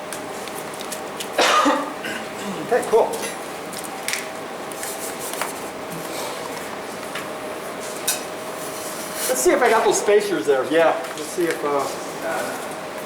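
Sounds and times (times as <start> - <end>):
background hum with faint tone: 0.0 - 13.0.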